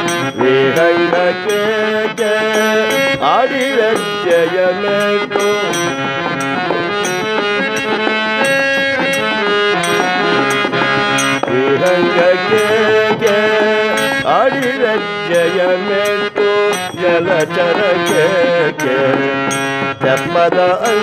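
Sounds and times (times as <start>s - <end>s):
hand drum beat: 0.0s - 21.0s
harmonium melody: 0.0s - 21.0s
small hand cymbals: 0.0s - 21.0s.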